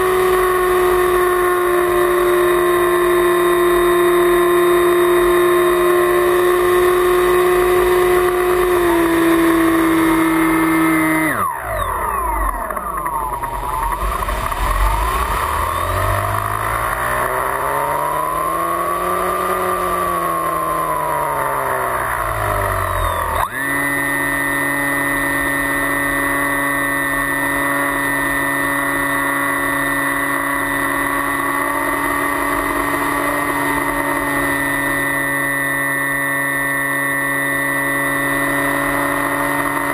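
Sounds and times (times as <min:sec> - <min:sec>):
motor and propeller whine: 0:00.0 - 0:39.9.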